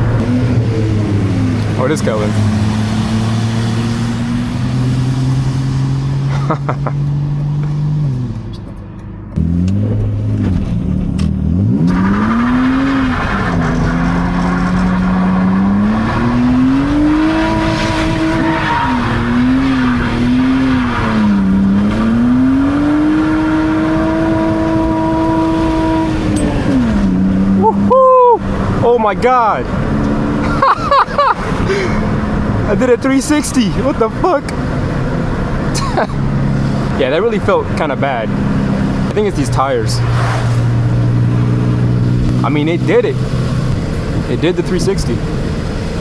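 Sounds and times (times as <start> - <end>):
car engine revving hard: 0.0 - 8.4, 9.4 - 46.0.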